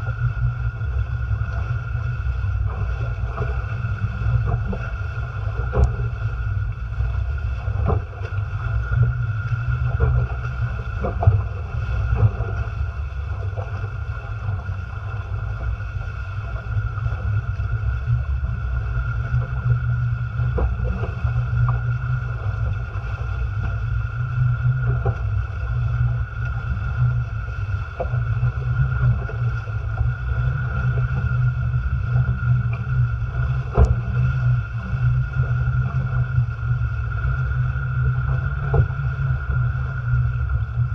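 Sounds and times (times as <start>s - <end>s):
water rushing along hulls: 0.0s - 40.9s
water slapping hulls: 0.0s - 40.9s.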